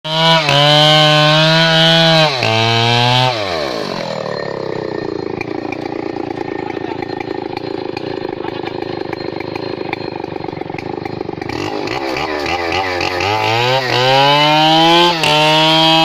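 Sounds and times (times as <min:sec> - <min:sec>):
chainsaw cutting into a tree trunk: 0:00.1 - 0:16.0.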